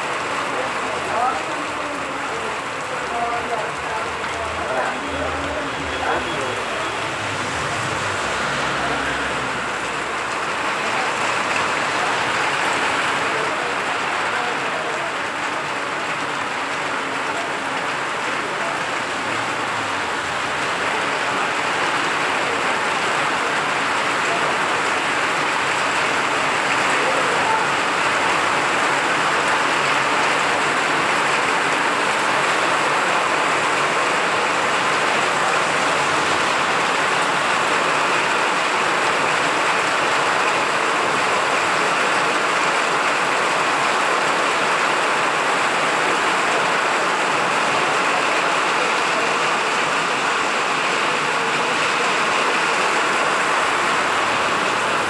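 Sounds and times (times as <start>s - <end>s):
heavy rain on wet road: 0.0s - 55.0s.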